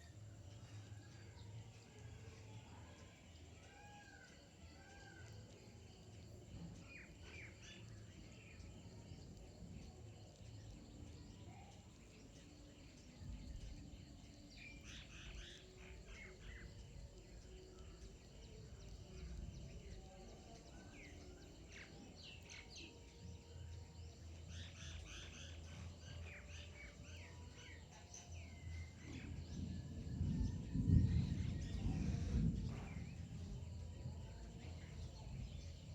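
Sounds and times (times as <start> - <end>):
low background rumble: 0.0 - 35.9
small birds chirping: 0.0 - 35.9.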